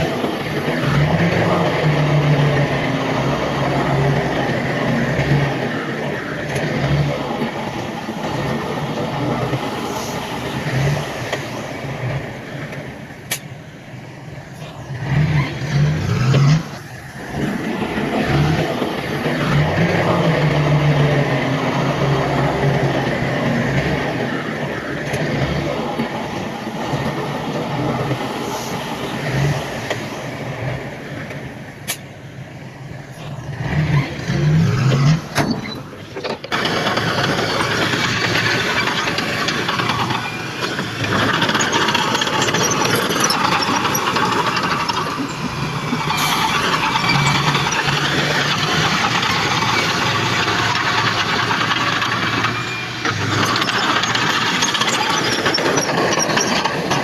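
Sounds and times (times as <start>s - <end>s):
earthmoving machinery engines: 0.0s - 57.0s
steady machine noise: 0.0s - 57.0s.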